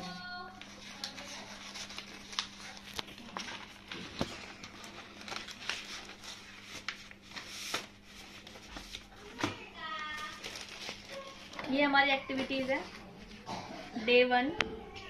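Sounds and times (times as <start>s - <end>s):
paper rustling and crinkling: 0.5s - 13.4s.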